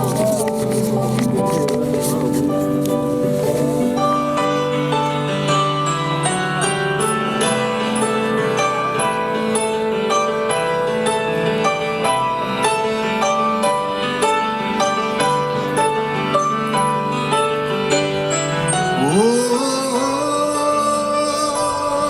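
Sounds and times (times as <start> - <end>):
rock band with piano and keyboards: 0.0 - 22.0.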